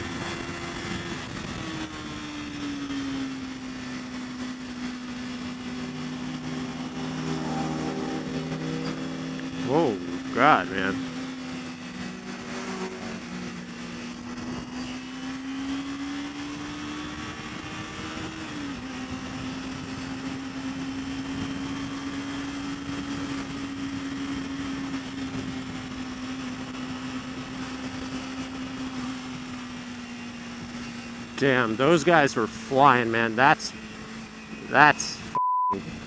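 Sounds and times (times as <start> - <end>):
motorcycle engine running: 0.0 - 36.0
wind and road noise: 0.0 - 36.0.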